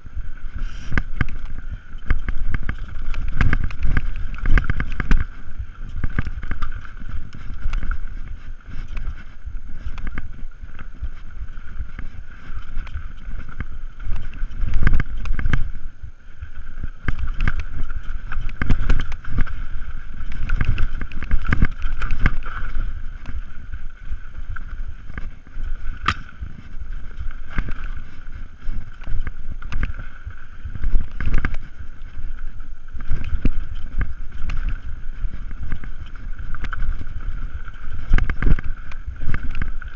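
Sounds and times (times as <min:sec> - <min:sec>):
bike rattling and thumping: 0:00.0 - 0:39.9
wind rushing over microphone: 0:00.0 - 0:39.9.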